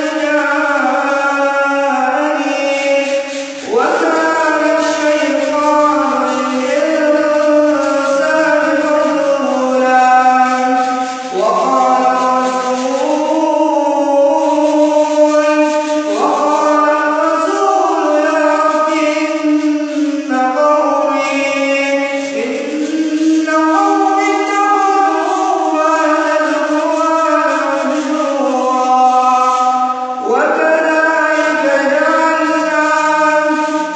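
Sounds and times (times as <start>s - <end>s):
man reciting in melodic chant: 0.0s - 33.9s.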